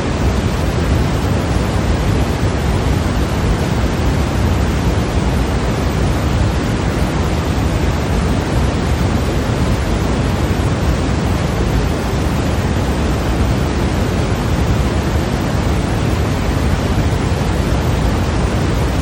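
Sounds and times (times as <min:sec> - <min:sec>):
steady white noise hiss: 0:00.0 - 0:19.0.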